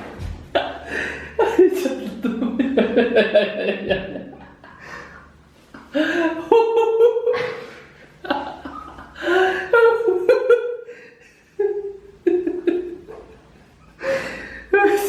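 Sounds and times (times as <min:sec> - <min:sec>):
person laughing hard: 0:00.5 - 0:13.3.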